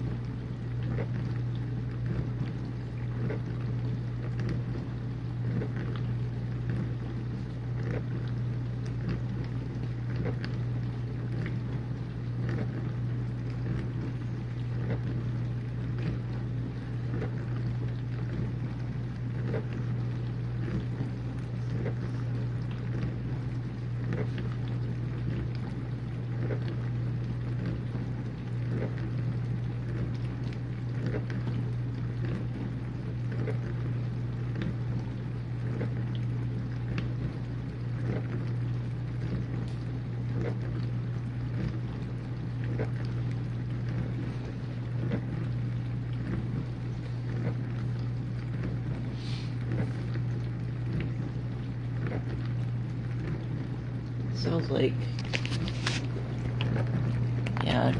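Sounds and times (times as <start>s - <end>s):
dishwasher motor hum: 0.0s - 57.9s.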